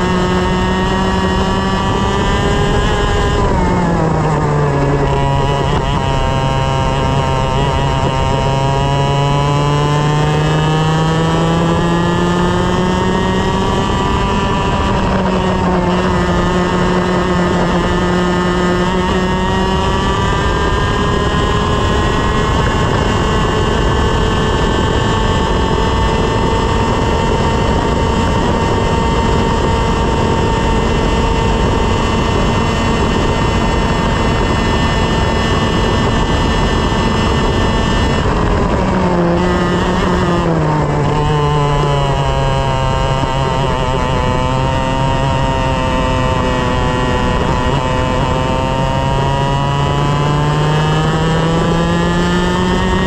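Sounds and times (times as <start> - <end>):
kart engine at full throttle: 0.0 - 53.0.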